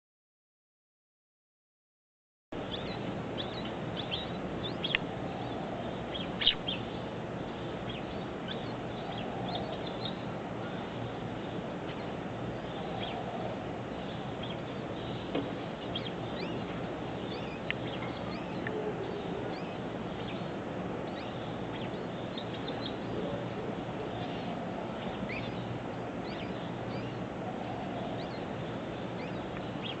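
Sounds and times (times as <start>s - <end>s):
bird chirping calls: 2.6s - 30.0s
low hum and hiss: 2.6s - 30.0s.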